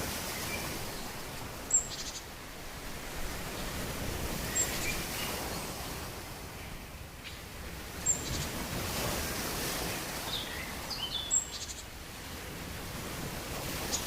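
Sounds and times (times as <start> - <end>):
steady rustling hiss: 0.0 - 14.0.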